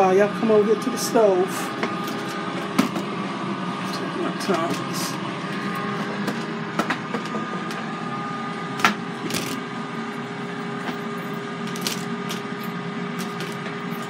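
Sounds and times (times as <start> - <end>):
air fryer fan hum: 0.0 - 14.0.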